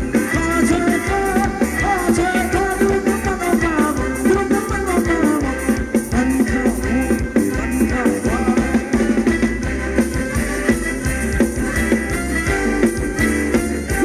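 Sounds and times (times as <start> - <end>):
drum kit steady beat: 0.0 - 14.0
live dance band playing: 0.0 - 14.0.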